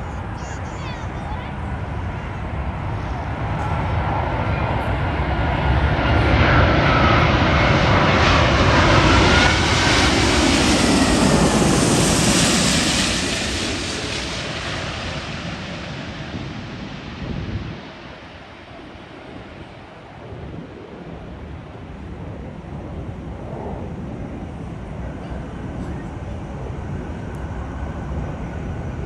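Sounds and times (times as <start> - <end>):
jet airliner engine roar: 0.0 - 29.0.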